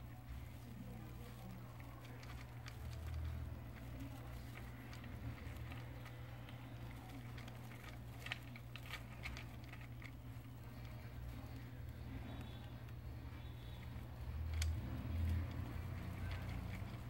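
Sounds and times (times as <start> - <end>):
faint low hum: 0.0 - 17.0
hamster chewing food: 0.0 - 17.0.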